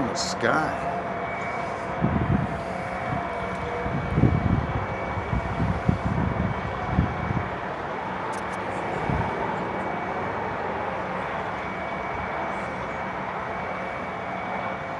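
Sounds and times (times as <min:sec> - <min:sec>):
airplane rumbling overhead: 0:00.0 - 0:14.9.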